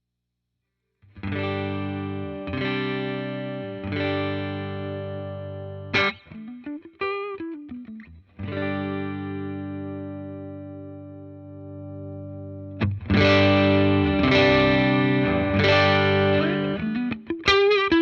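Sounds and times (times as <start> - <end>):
electric guitar chords ringing: 1.2 - 18.0
guitar single notes: 1.2 - 18.0.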